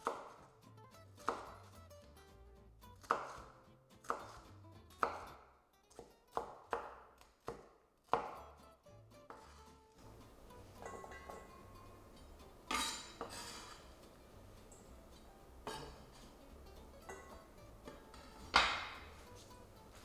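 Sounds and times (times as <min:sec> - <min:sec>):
knife dicing on a cutting board: 0:00.0 - 0:00.5, 0:01.2 - 0:01.7, 0:03.0 - 0:08.5, 0:09.3 - 0:20.0.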